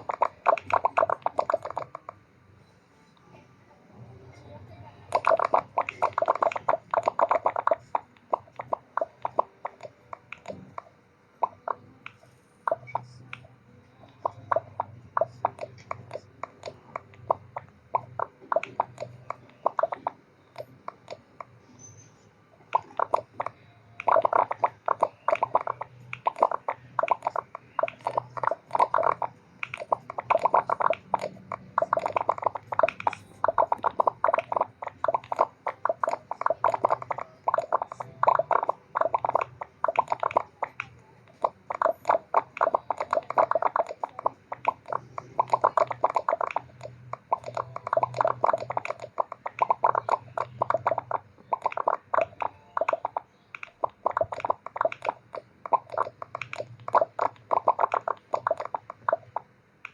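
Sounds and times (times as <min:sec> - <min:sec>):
rapid sharp clicks: 0:00.0 - 0:02.3, 0:05.1 - 0:59.9
faint low hum: 0:00.0 - 0:59.9.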